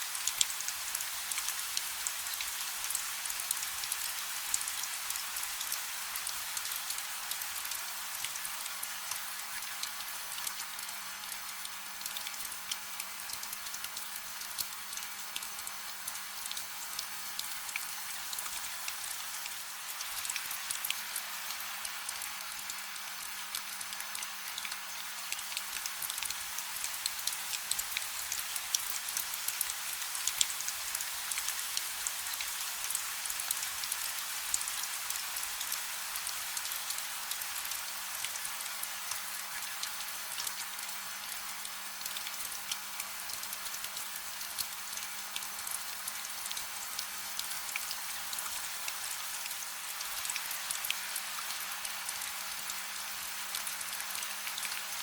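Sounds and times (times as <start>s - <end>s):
gentle rain hiss: 0.0s - 55.0s
raindrops ticking on surface: 0.1s - 55.0s.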